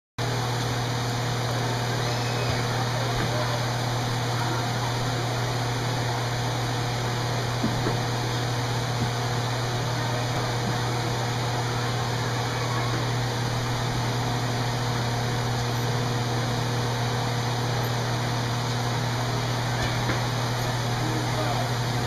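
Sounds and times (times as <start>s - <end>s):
steady low hum with hiss: 0.2s - 22.0s.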